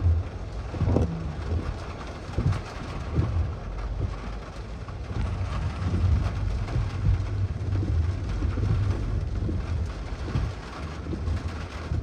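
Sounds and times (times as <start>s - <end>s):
low uneven rumble: 0.0s - 12.0s
rain on wet streets: 0.0s - 12.0s.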